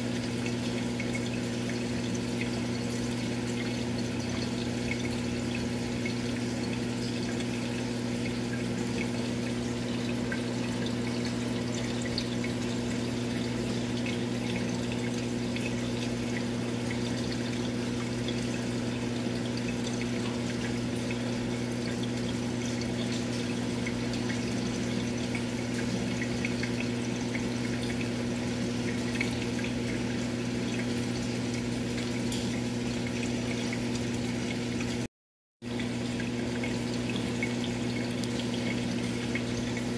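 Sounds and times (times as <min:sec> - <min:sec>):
aquarium pump humming: 0:00.0 - 0:39.9
water trickling and bubbling: 0:00.0 - 0:39.9.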